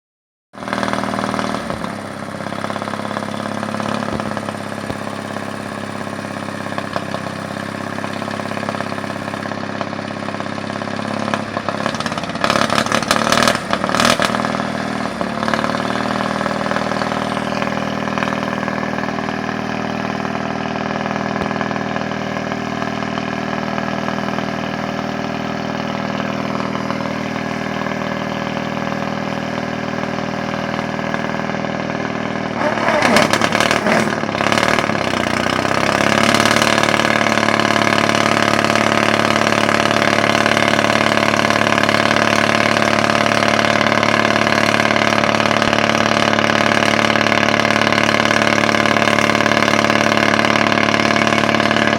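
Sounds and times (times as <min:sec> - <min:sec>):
diesel engine idling: 0:00.6 - 0:51.9.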